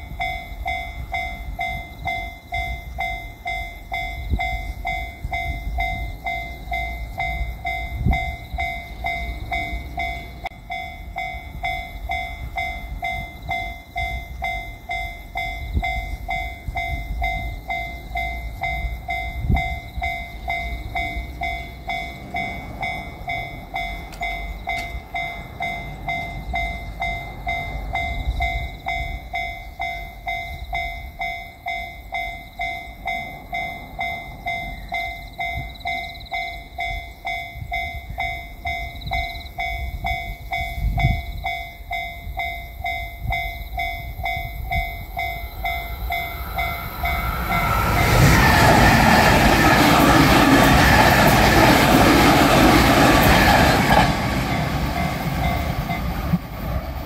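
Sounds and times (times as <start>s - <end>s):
level crossing alarm clanging: 0.0s - 56.5s
electric train passing: 0.0s - 57.0s
train wheel and rail noise: 0.0s - 57.0s.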